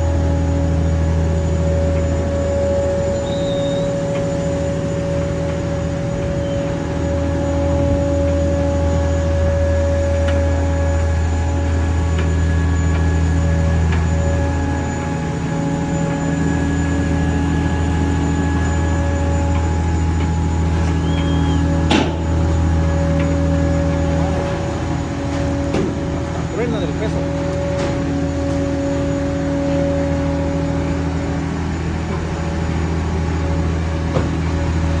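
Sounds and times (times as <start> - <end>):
heavy transporter low drone: 0.0 - 35.0
steady whine: 0.0 - 35.0.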